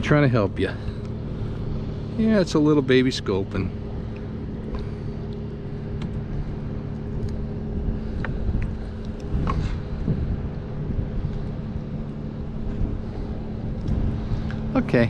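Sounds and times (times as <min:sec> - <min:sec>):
constant hum: 0:00.0 - 0:15.0
low outdoor rumble: 0:00.0 - 0:15.0.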